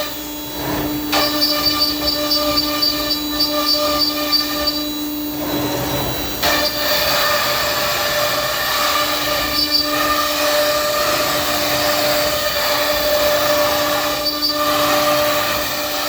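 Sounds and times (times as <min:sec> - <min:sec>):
cnc router high whine: 0:00.0 - 0:16.0.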